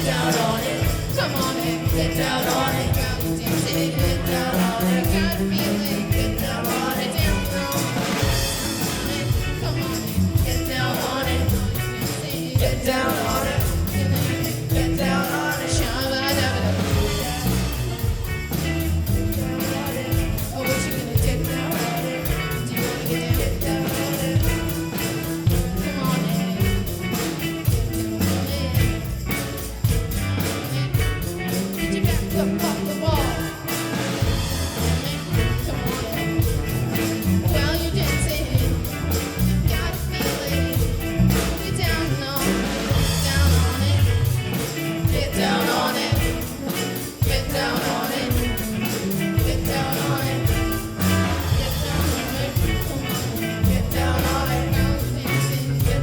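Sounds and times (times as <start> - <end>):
drum kit steady beat: 0.0 - 56.0
rock band playing funk-pop groove: 0.0 - 56.0.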